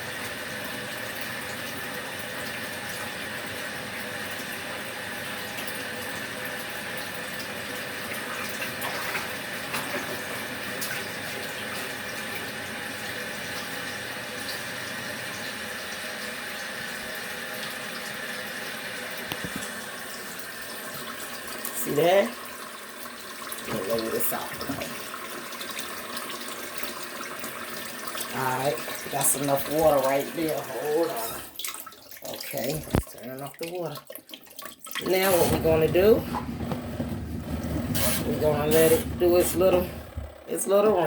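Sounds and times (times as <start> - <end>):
tap water filling a tub: 0.0 - 41.0.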